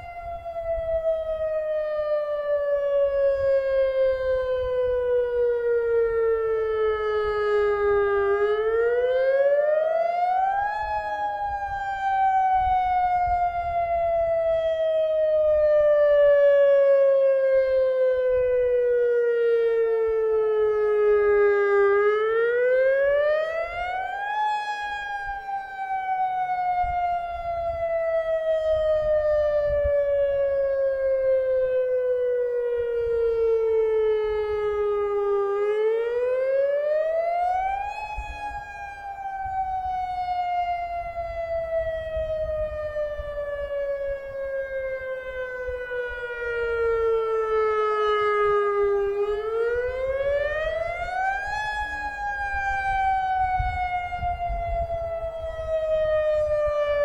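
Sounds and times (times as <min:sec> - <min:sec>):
fainter second siren wailing: 0:00.0 - 0:57.0
warning siren wailing: 0:00.0 - 0:57.0.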